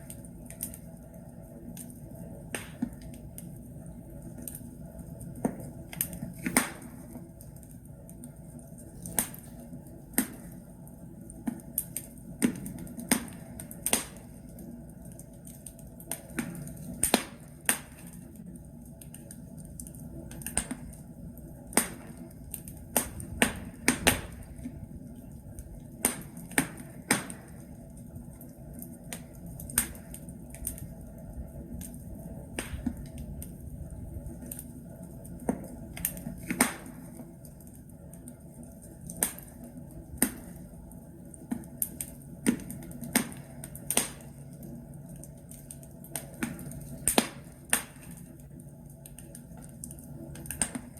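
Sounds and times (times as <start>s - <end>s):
logs crackling in fireplace: 0.0s - 50.9s
low hum of fire: 0.0s - 50.9s.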